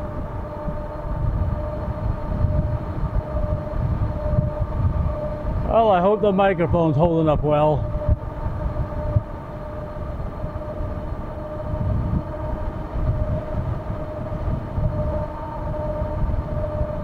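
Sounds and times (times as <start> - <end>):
electric motor whine: 0.0 - 17.0
wind buffeting microphone: 0.0 - 17.0.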